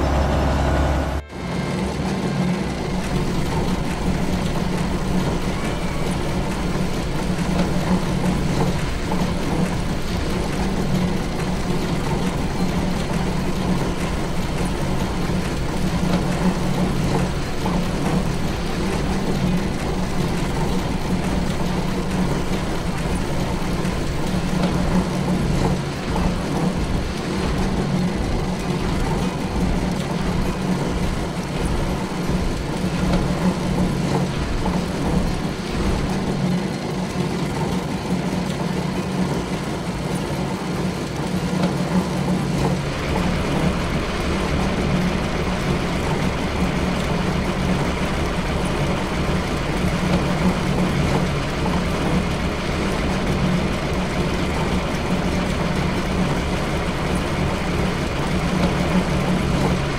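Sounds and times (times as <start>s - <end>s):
factory machinery rumbling: 0.0s - 59.9s.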